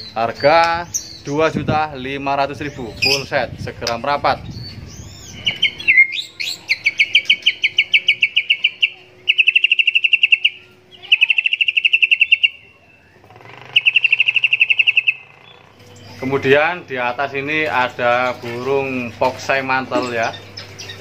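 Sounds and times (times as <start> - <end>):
bird singing fast repeated notes: 0.0 - 3.4, 4.0 - 21.0.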